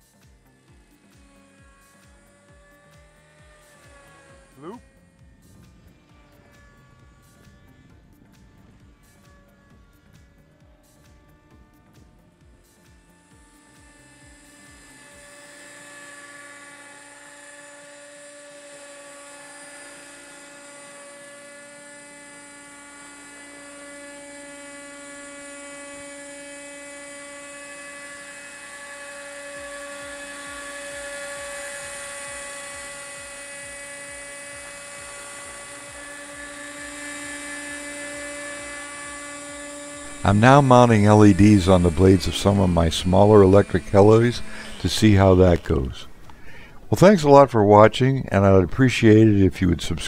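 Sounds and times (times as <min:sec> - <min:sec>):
rc helicopter engine whining: 0:00.0 - 0:50.0.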